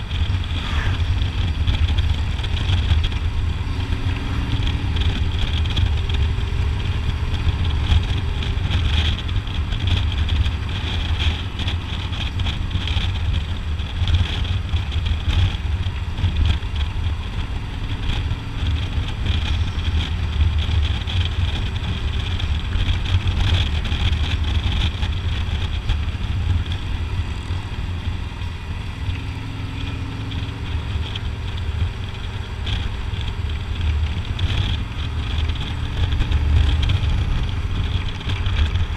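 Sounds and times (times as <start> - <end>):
motorcycle engine and wind rumble: 0.0 - 38.9.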